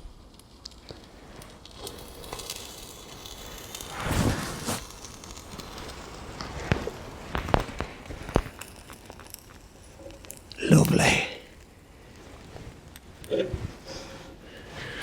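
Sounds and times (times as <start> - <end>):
paper burning with crackles: 0.0 - 15.0
fire rushing: 0.7 - 15.0.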